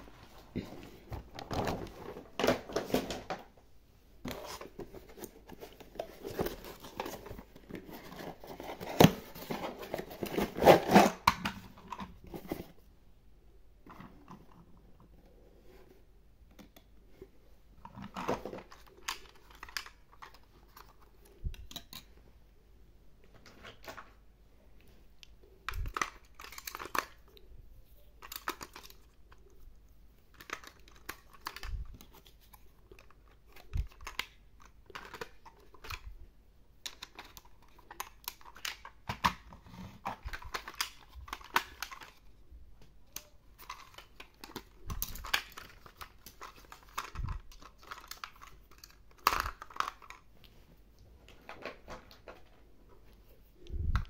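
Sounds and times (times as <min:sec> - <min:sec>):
handling plastic toy and box: 0:00.0 - 0:13.0, 0:13.7 - 0:22.2, 0:23.2 - 0:54.0.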